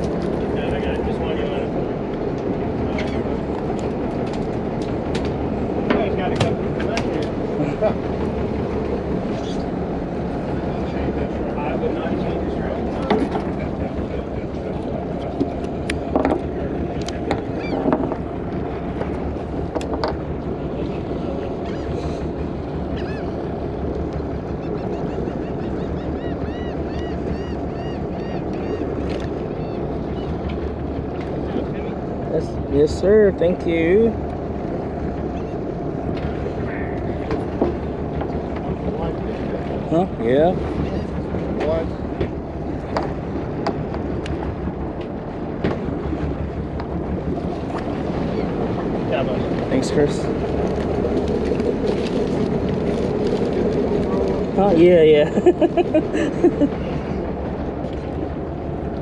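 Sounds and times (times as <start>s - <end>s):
boat engine rumble: 0.0s - 59.0s.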